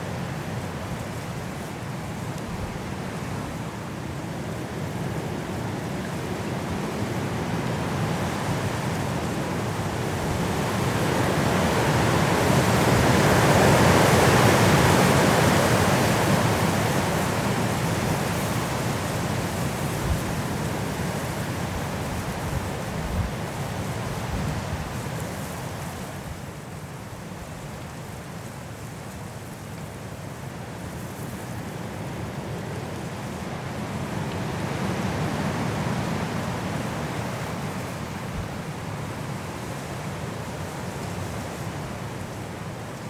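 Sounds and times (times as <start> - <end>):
high wind through trees: 0.0 - 43.0.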